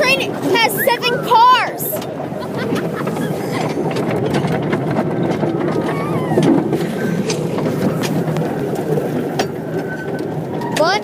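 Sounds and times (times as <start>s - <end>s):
toy train rumbling: 0.0s - 11.0s
wheels clacking on rails: 0.0s - 11.0s.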